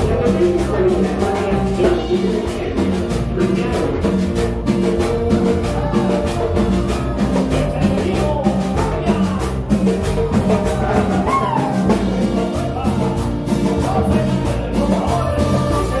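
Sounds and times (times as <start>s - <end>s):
drum kit steady beat: 0.0s - 16.0s
live rock band playing: 0.0s - 16.0s.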